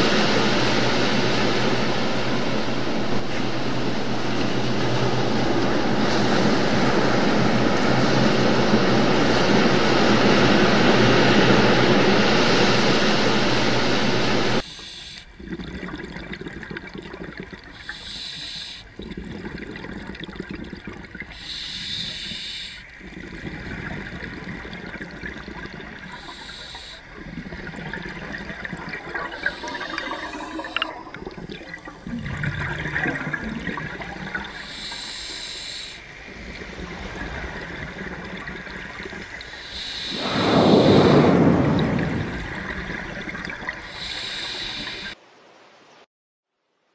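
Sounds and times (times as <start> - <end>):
water swirling and bubbling: 0.0 - 45.2
underwater rushing water: 0.0 - 46.0.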